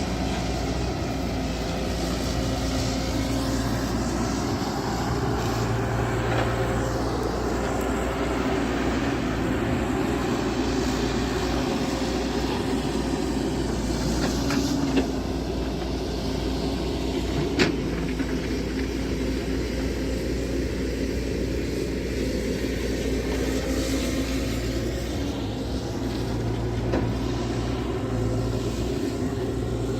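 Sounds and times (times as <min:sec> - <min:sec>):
engine droning: 0:00.0 - 0:29.9.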